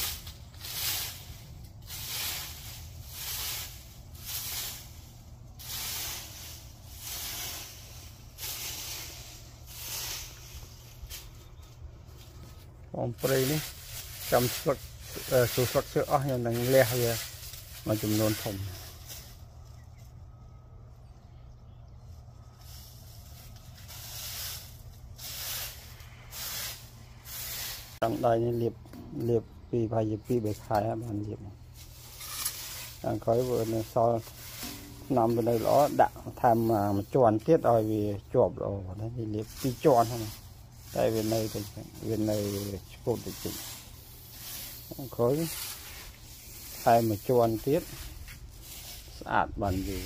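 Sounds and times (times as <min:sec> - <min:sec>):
rake scraping through dry leaves: 0:00.0 - 0:20.2, 0:22.0 - 0:50.0
steady low hum: 0:00.0 - 0:50.0.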